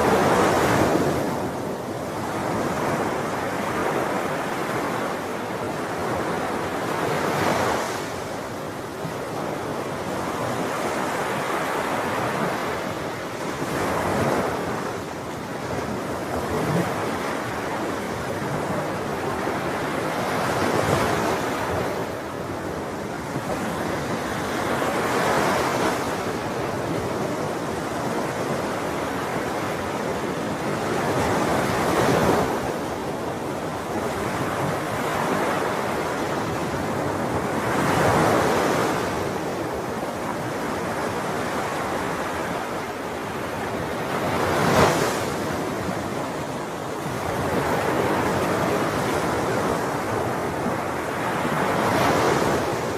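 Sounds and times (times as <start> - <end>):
ocean waves breaking: 9.0 - 52.9.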